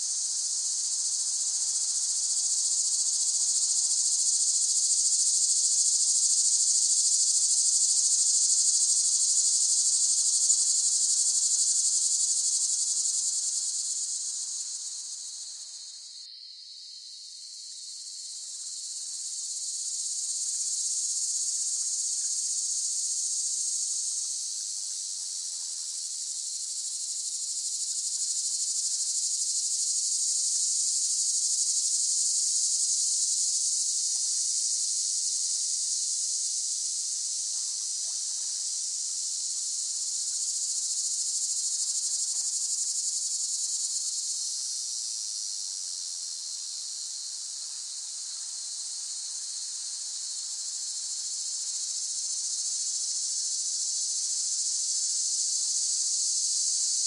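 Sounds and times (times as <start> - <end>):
cicadas buzzing: 0.0 - 25.2, 25.9 - 36.7, 37.3 - 57.0.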